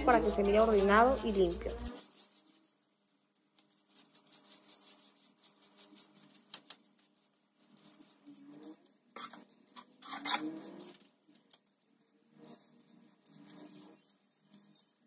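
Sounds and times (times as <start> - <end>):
stiff brush scrubbing: 0.0 - 15.0.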